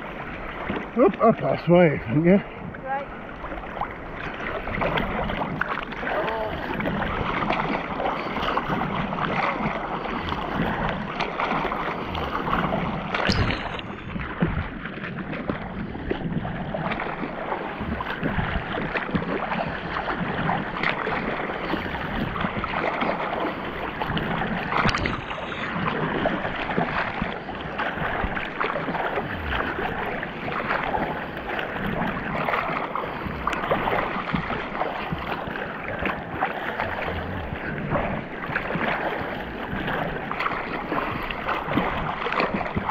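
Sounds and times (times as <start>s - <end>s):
sea water sloshing and splashing: 0.0s - 42.9s.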